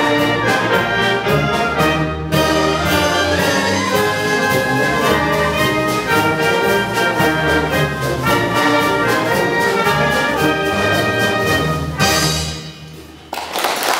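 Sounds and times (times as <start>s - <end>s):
wind band playing chords: 0.0s - 13.2s.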